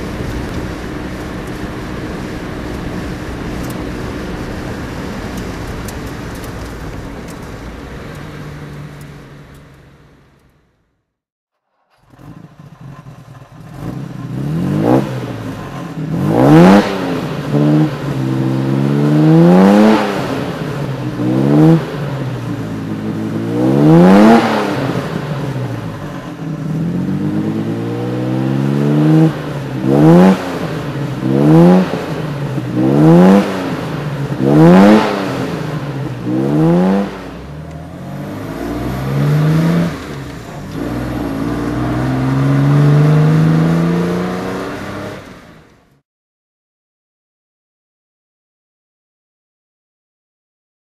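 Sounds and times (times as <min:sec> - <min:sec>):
car engine revving: 0:00.0 - 0:10.8, 0:11.9 - 0:46.0.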